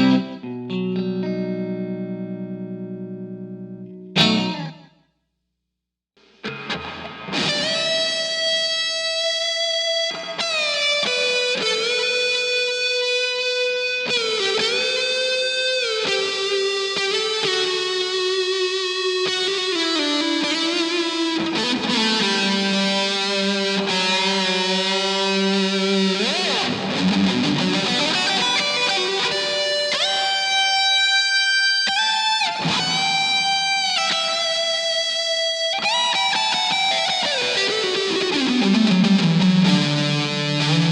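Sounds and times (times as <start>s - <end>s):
electric guitar lead with reverb: 0.0s - 5.0s, 6.2s - 40.9s.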